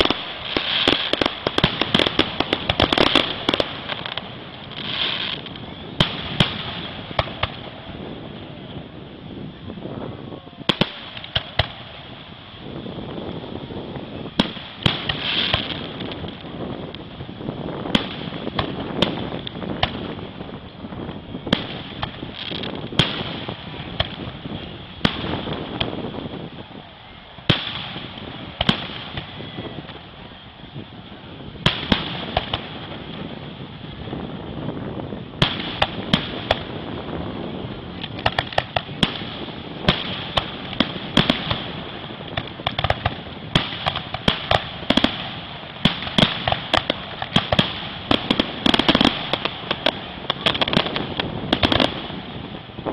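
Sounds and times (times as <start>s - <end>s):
fireworks booming and crackling: 0.0s - 52.9s.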